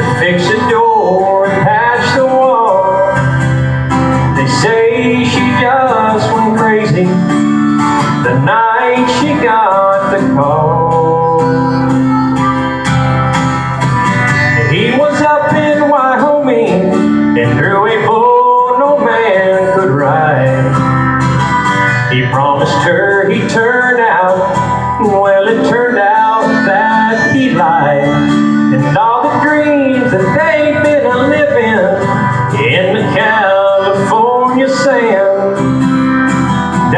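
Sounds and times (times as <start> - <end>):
man singing: 0.0 - 21.2, 21.8 - 36.9
acoustic guitar: 0.0 - 36.9.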